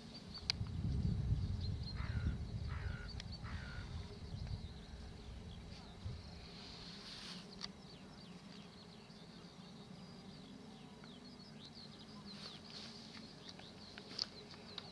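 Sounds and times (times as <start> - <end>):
low steady hum: 0.0 - 14.9
small birds chirping: 0.0 - 14.9.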